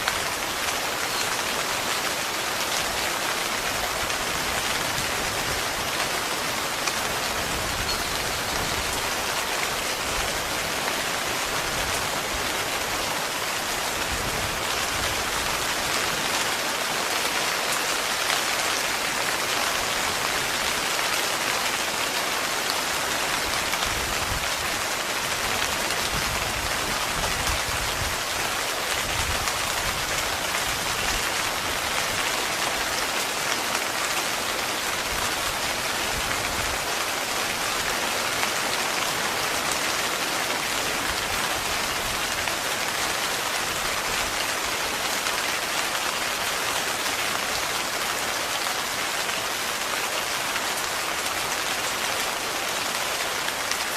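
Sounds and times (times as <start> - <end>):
heavy rain on a tent: 0.0 - 53.9.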